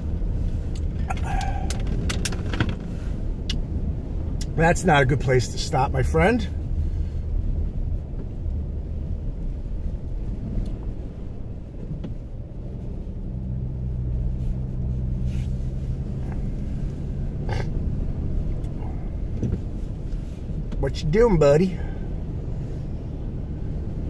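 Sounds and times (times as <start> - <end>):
car driving rumble: 0.0 - 24.0
low engine hum: 0.0 - 24.0.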